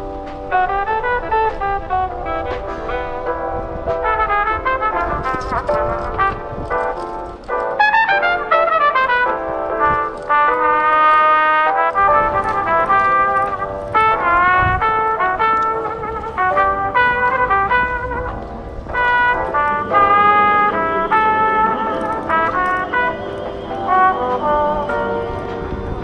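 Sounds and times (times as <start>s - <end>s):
instrumental background music: 0.0s - 26.0s.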